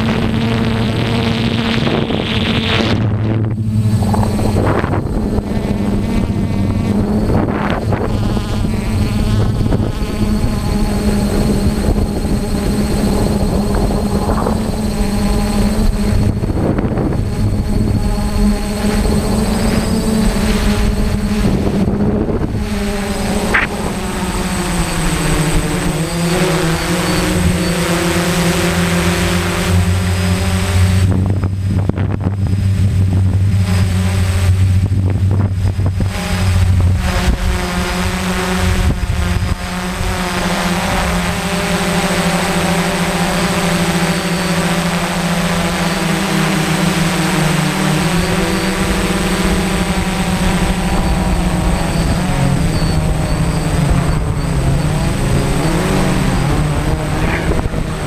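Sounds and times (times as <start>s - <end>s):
deeper hum: 0.0s - 58.0s
drone propellers droning: 0.0s - 58.0s.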